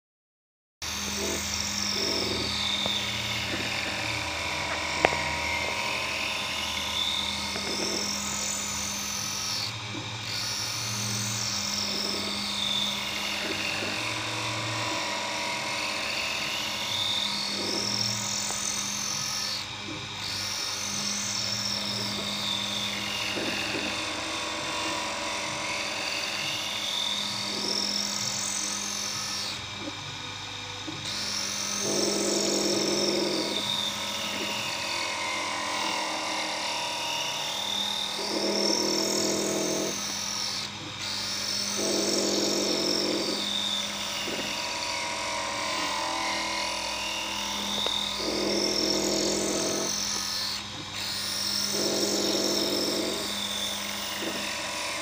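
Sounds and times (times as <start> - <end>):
grinding wheel motor hum: 0.8 - 55.0
stepper motors whining: 0.8 - 55.0.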